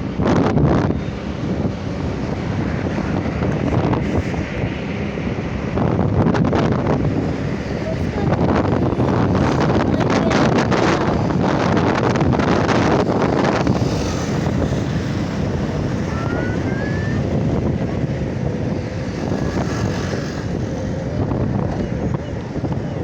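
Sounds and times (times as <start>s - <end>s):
motorcycle and road noise: 0.0s - 23.0s
wind buffeting microphone: 0.0s - 23.0s.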